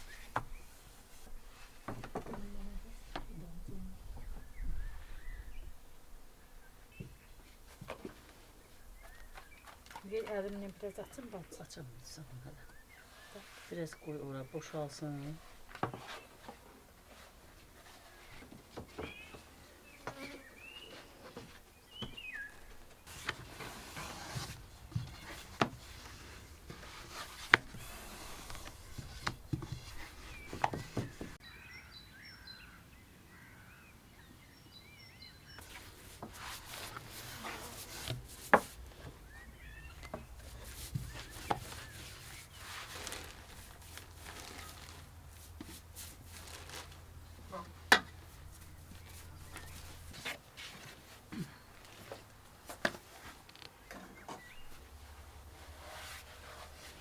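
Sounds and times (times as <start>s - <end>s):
small birds chirping: 0.0s - 23.5s, 24.6s - 44.9s, 48.4s - 52.6s, 53.3s - 55.2s
rustling: 7.0s - 31.4s, 35.6s - 57.0s.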